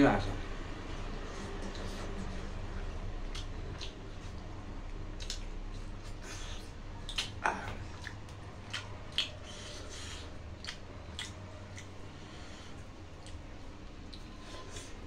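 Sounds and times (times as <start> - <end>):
chewing and lip smacks: 1.1 - 15.0.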